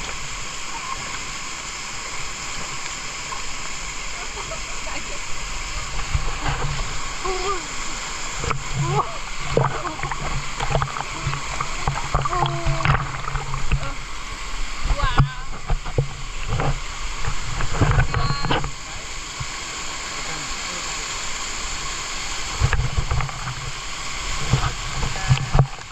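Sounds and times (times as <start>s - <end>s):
water splashing: 0.0s - 25.9s
waterfall rushing: 0.0s - 25.9s.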